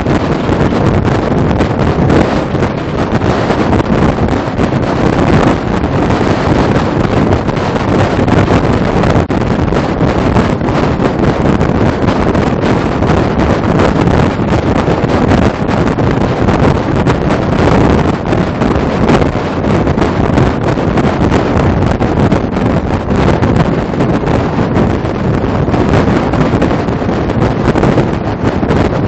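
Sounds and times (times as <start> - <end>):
truck rumbling at highway speed: 0.0 - 29.0
wind buffeting microphone: 0.0 - 29.0.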